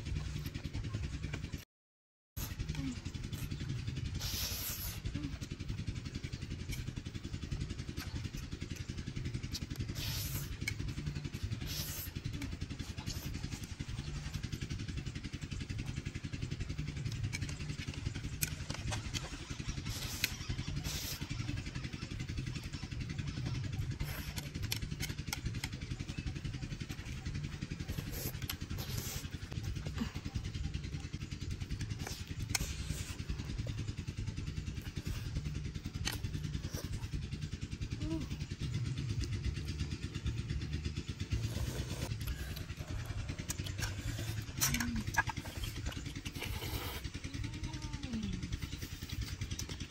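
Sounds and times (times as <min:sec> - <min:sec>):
steady low rumble: 0:00.0 - 0:01.6, 0:02.4 - 0:49.9
noodles slurped and chewed: 0:02.4 - 0:38.0, 0:41.2 - 0:47.4.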